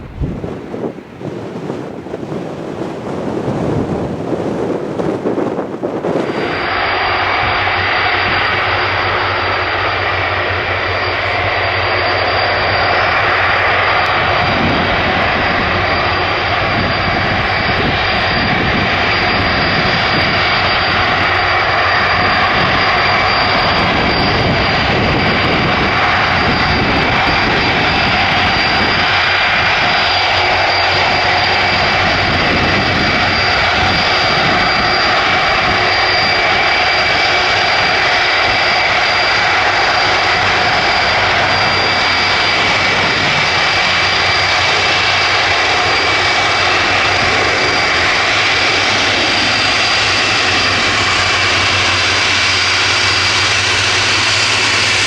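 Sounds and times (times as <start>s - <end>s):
jet engines with fan whine: 0.0s - 55.0s.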